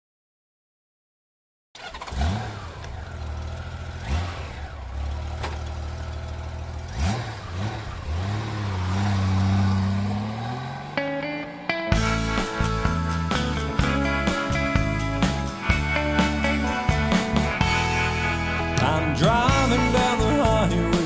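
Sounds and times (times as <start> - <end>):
motorcycle engine revving: 1.8 - 21.0.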